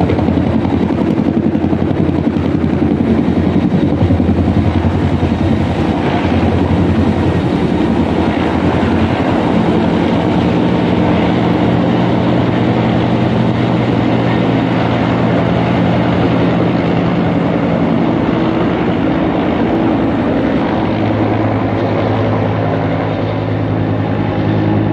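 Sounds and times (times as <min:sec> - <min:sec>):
helicopter rotor chopping: 0:00.0 - 0:24.9.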